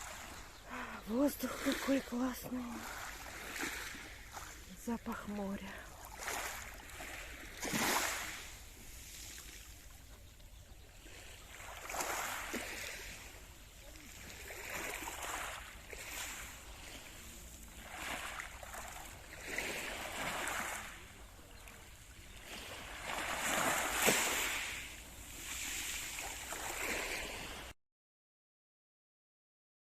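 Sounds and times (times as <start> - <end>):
small waves washing in: 0.0 - 27.8.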